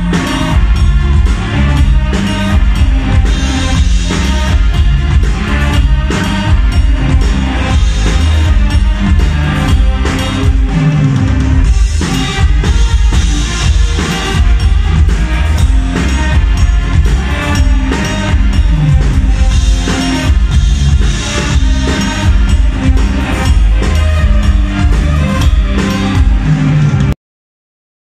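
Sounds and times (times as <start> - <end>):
drum kit: 0.0 - 27.2
rock band playing: 0.0 - 27.2.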